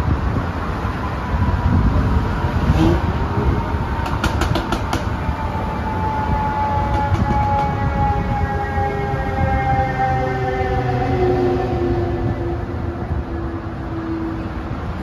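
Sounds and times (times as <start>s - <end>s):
car traffic rumble: 0.0s - 15.0s.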